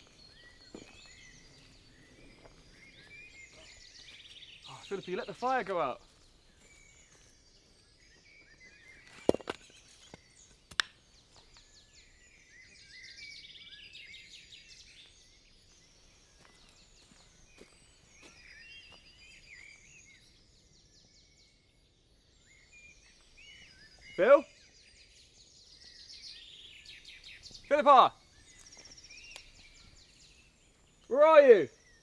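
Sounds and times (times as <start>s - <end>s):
birds singing and chirping: 0.0s - 32.0s.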